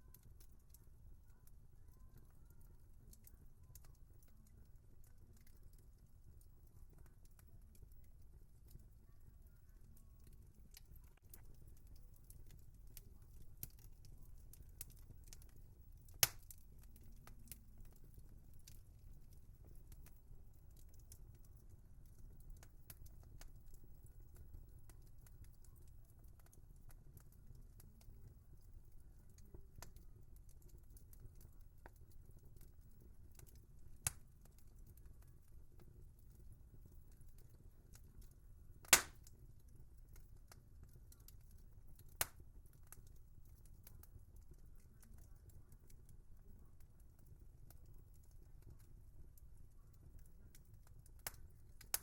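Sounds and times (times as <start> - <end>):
low fire rumble: 0.0 - 52.0
wood fire crackling: 0.0 - 52.0.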